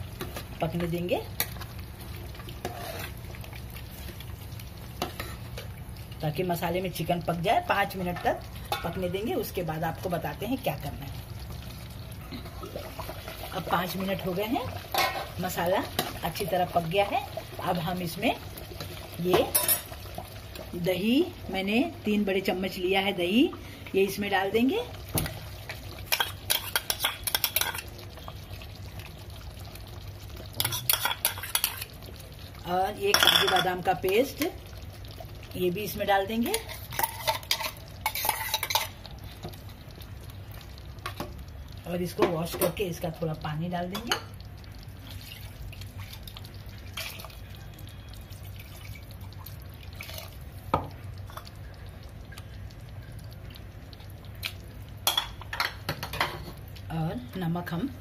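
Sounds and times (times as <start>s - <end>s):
water dripping and trickling: 0.6s - 58.0s.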